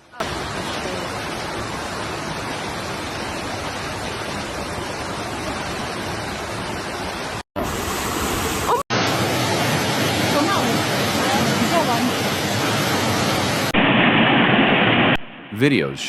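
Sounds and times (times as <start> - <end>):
floodwater rushing: 0.0 - 14.4.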